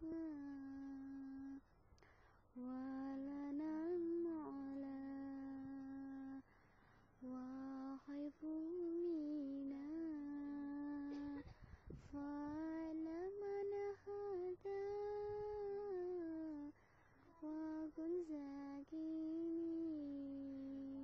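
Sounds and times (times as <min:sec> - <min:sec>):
woman singing devotional song: 0:00.0 - 0:01.7, 0:02.5 - 0:21.0.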